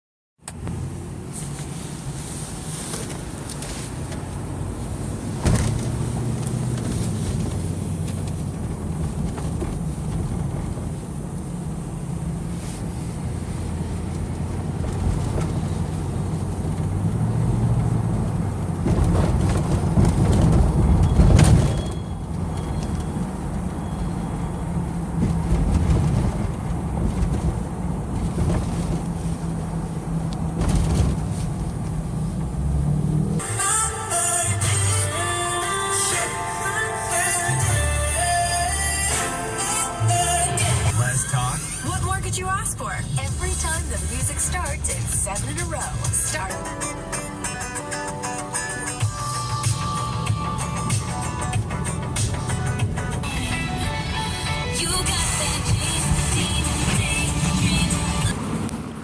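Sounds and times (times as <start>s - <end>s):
vehicle engine rumble: 0.4s - 59.0s.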